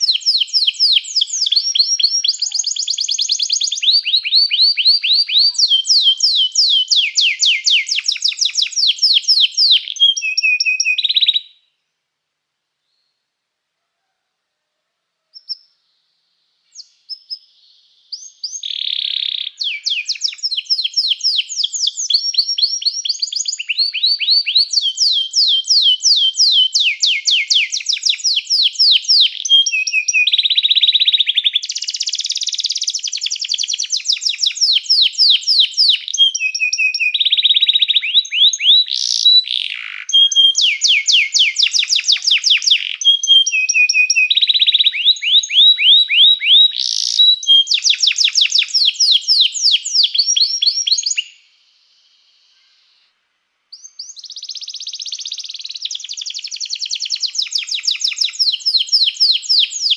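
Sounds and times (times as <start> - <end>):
canary singing trills: 0.0 - 11.6, 16.7 - 53.0, 53.7 - 59.9.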